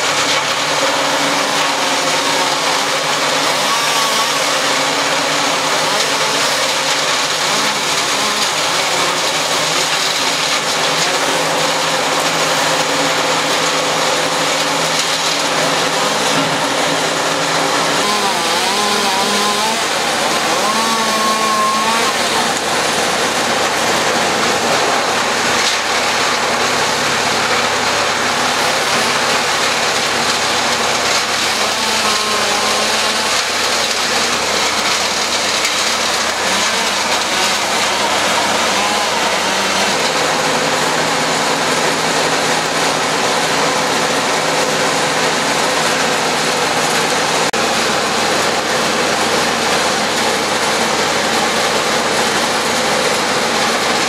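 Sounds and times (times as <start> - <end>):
wood chipper running: 0.0 - 54.0.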